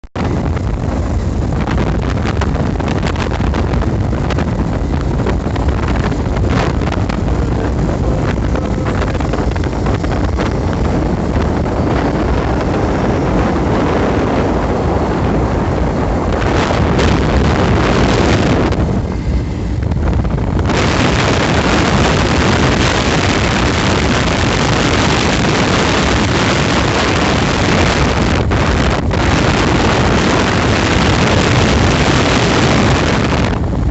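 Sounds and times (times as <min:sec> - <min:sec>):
wind buffeting microphone: 0:00.1 - 0:33.9.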